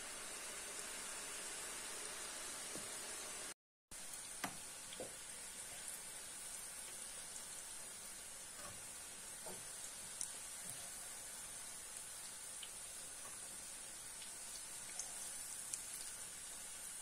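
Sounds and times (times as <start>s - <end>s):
patties sizzling in hot oil: 0.0s - 17.0s.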